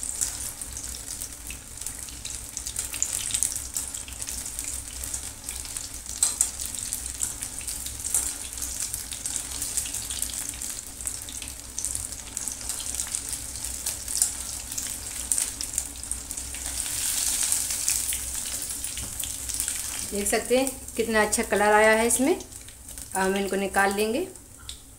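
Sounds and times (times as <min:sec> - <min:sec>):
food deep-frying in oil: 0:00.0 - 0:24.9.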